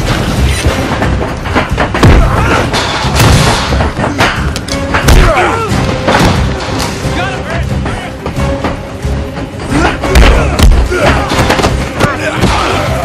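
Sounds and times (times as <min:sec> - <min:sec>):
dramatic film score: 0:00.0 - 0:13.0.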